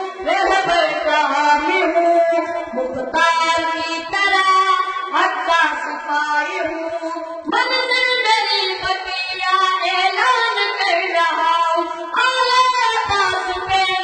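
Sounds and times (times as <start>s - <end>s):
boy singing into a microphone: 0.0s - 14.0s.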